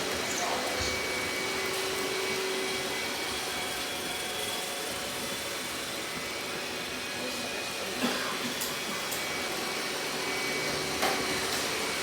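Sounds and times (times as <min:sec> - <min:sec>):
robot vacuum cleaner running: 0:00.0 - 0:12.0.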